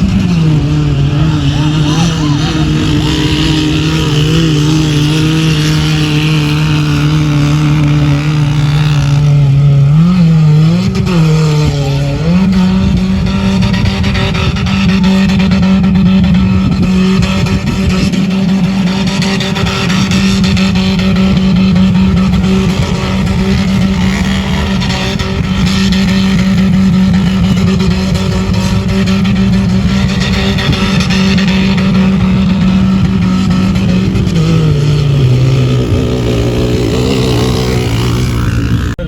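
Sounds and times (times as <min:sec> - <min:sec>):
engine at high revs: 0:00.0 - 0:39.0.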